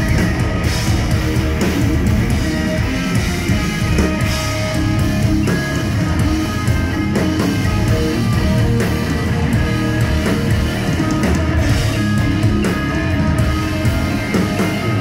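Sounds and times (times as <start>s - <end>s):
bass guitar: 0.0s - 15.0s
drum kit: 0.0s - 15.0s
electric guitar melody: 0.0s - 15.0s.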